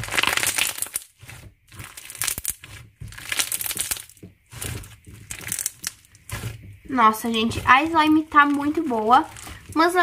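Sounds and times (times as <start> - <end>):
beaded slime crunchy crackling: 0.0 - 10.0.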